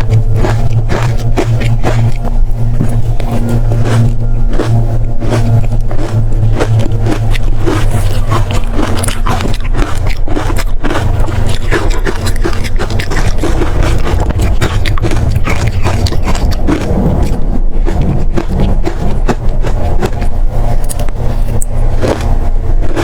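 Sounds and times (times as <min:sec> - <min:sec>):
ice crunching while chewed: 0:00.0 - 0:23.0
steady low rumble: 0:00.0 - 0:23.0.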